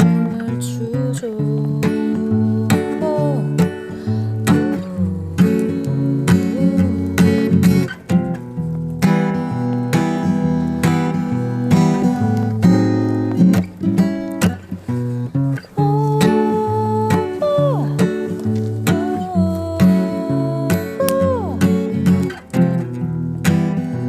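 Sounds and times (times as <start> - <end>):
acoustic guitar strumming and picking: 0.0 - 24.0.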